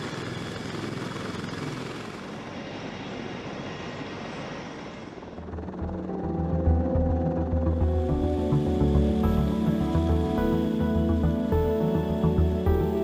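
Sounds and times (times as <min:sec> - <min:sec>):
helicopter engines and rotors: 0:00.0 - 0:13.0.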